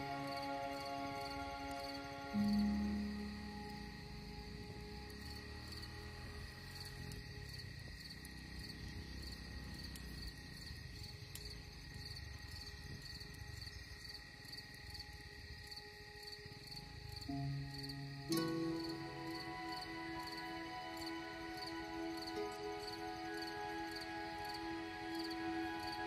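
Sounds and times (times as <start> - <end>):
crickets chirping: 0.0 - 26.0
soft held background tone: 0.0 - 26.0.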